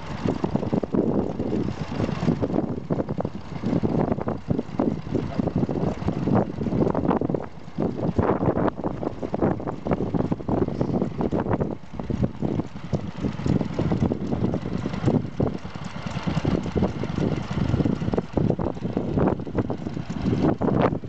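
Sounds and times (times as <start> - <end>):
stationary engine running: 0.0 - 21.0
wind buffeting microphone: 0.0 - 21.0.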